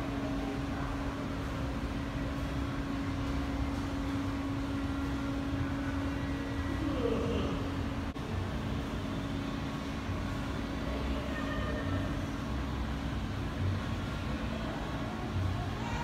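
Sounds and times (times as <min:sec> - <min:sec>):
ventilation unit hum: 0:00.0 - 0:16.0.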